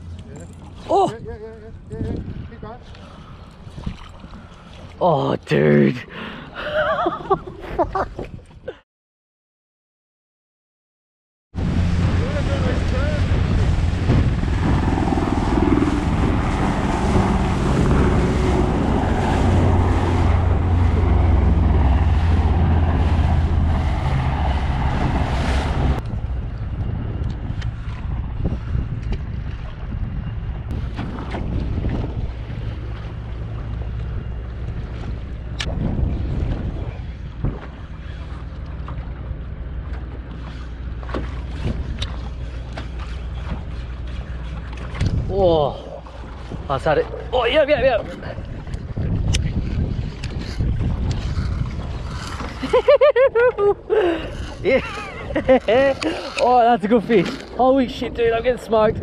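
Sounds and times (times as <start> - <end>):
wind buffeting microphone: 0.0 - 5.0, 11.6 - 59.0
water slapping hull: 0.0 - 5.5, 11.6 - 59.0
boat motor hum: 0.0 - 7.8, 11.6 - 59.0.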